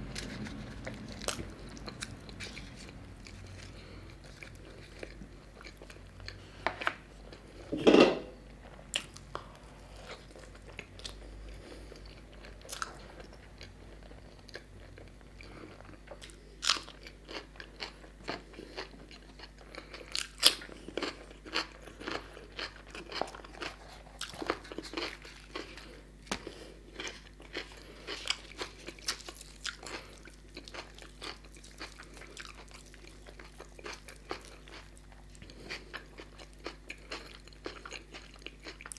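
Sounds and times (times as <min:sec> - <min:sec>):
close chewing and crunching: 0:00.0 - 0:07.7, 0:08.4 - 0:38.9.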